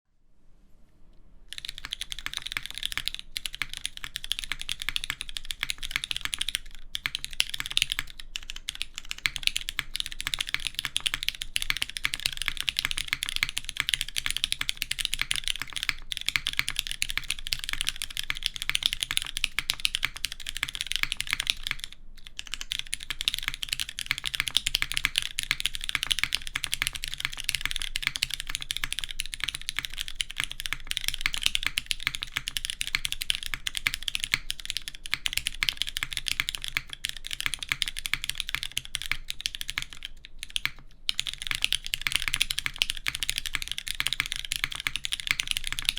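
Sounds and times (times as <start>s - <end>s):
fast typing on mechanical keyboard: 1.5s - 45.9s.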